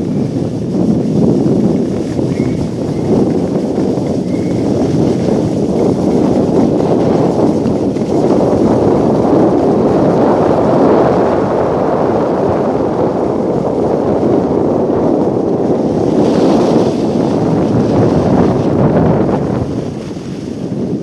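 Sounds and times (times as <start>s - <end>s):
skis hissing over packed snow: 0.0s - 21.0s
wind rushing on microphone: 0.0s - 21.0s.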